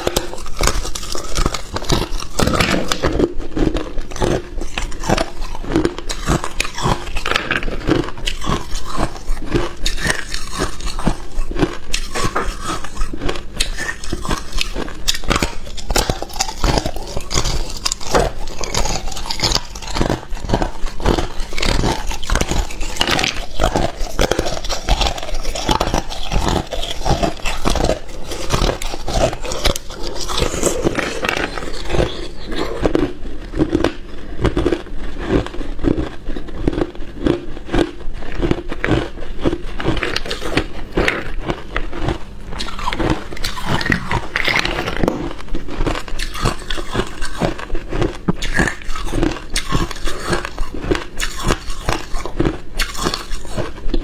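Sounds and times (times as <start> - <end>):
ice cubes crunched between teeth: 0.0 - 54.0.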